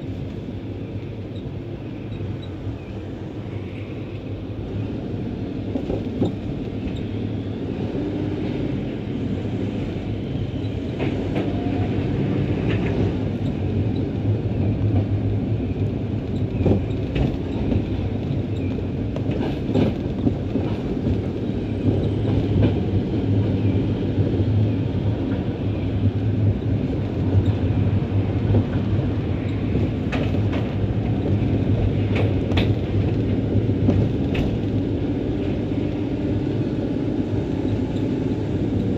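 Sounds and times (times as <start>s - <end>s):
tram clicks and creaks: 0.0s - 38.9s
tram low hum: 0.0s - 38.9s.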